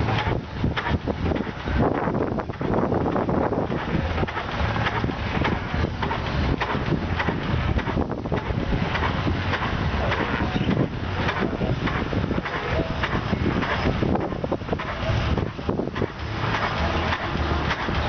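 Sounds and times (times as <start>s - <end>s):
tractor engine idling: 0.0s - 18.0s
wind buffeting microphone: 0.0s - 18.0s.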